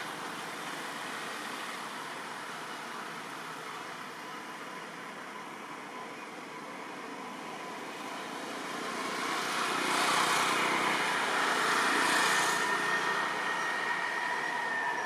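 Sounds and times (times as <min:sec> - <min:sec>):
motor vehicle noise: 0:00.0 - 0:15.0.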